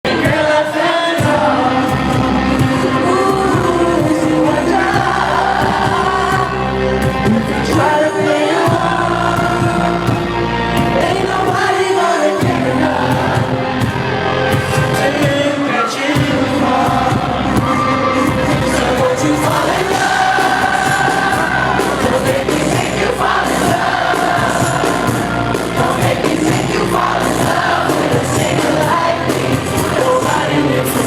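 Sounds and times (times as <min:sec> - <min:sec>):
man singing: 0:00.0 - 0:13.8, 0:14.5 - 0:31.0
band with heavy bass: 0:00.0 - 0:31.0
crowd singing along: 0:00.0 - 0:31.0.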